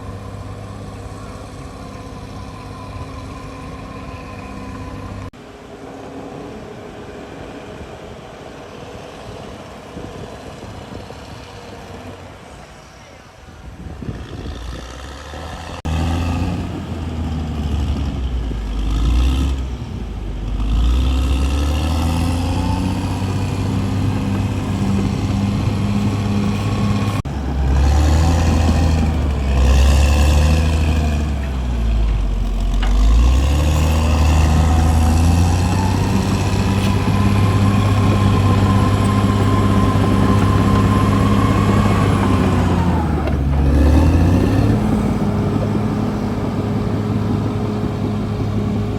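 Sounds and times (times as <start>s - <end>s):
bulldozer diesel engine revving: 0.0s - 5.4s, 14.2s - 48.9s.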